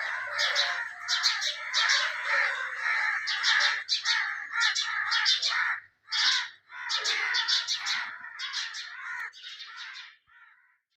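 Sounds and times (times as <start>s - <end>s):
birds giving harsh rapid calls: 0.0s - 10.8s.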